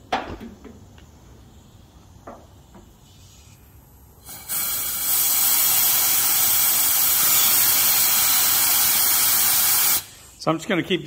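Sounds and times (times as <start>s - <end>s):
compressed air blow gun hissing: 1.3s - 10.5s.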